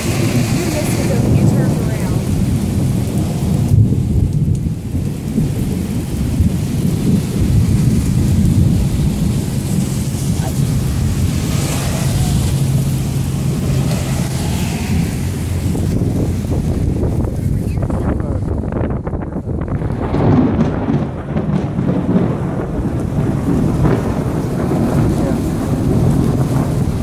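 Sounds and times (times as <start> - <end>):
low rumble of thunder: 0.0 - 27.0
steady rain: 0.0 - 27.0.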